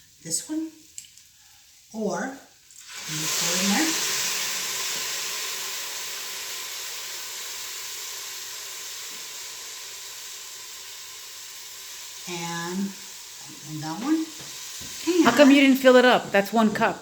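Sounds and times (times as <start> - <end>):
broth sizzling in a hot pot: 0.0 - 17.0.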